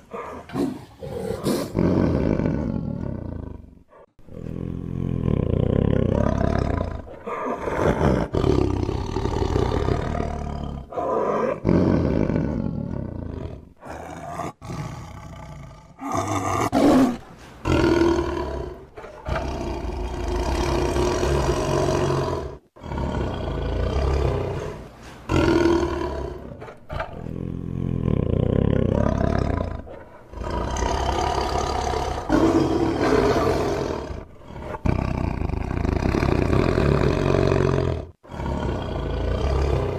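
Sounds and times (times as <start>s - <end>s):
tiger roaring and growling: 0.0s - 39.9s.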